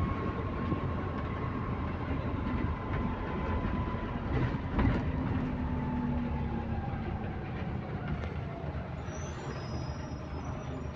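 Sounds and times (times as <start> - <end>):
bus engine and road noise: 0.0 - 10.9.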